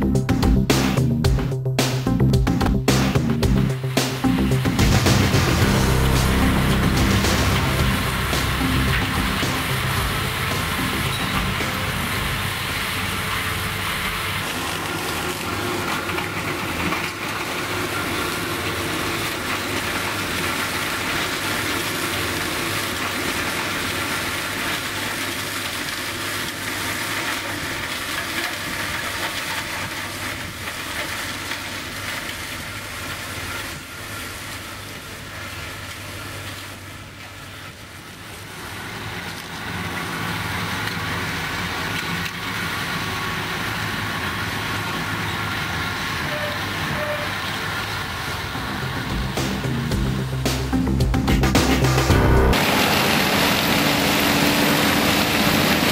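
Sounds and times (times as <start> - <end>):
tractor engine under load: 0.0 - 51.0, 51.6 - 55.9
mower blades chopping grass: 0.7 - 50.9, 51.6 - 55.9.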